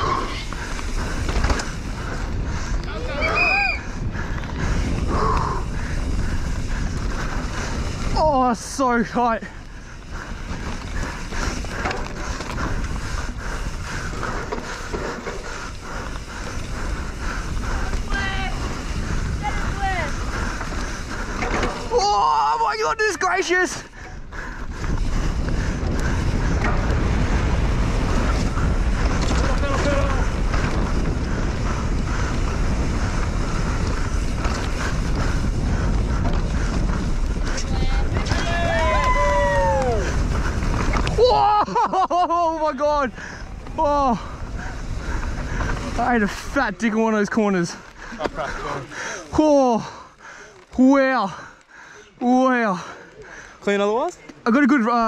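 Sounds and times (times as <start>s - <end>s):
wind rumble on microphone: 0.0s - 48.8s
bike chain and frame clattering: 0.0s - 51.4s
bike tyres on dirt: 0.0s - 55.0s.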